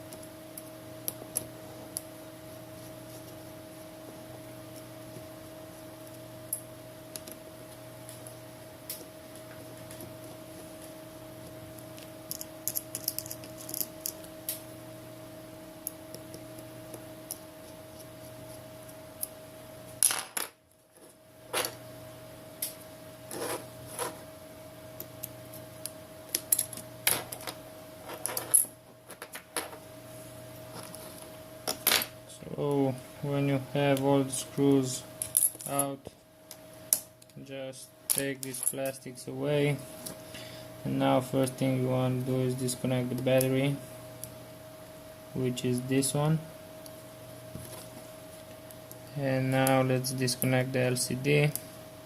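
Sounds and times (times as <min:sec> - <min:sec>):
steady electrical hum: 0:00.0 - 0:52.0.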